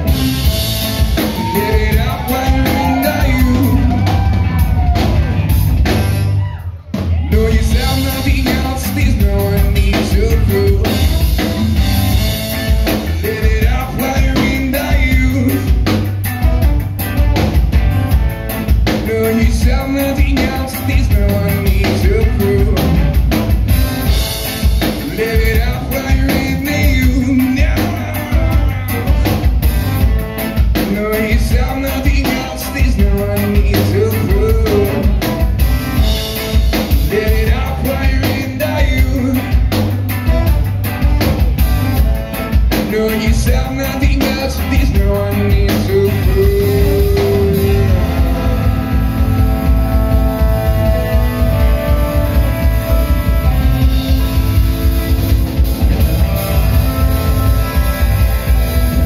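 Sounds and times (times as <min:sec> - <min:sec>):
drum kit beat: 0:00.0 - 0:59.0
electric bass: 0:00.0 - 0:59.0
electric guitar: 0:00.0 - 0:59.0
trombone: 0:07.8 - 0:18.4, 0:20.6 - 0:59.0.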